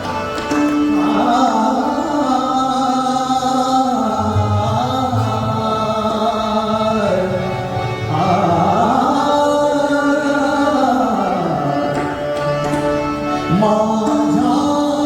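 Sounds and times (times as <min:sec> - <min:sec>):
instrumental accompaniment: 0:00.0 - 0:15.0
man singing long gliding notes: 0:00.8 - 0:12.4, 0:13.4 - 0:15.0.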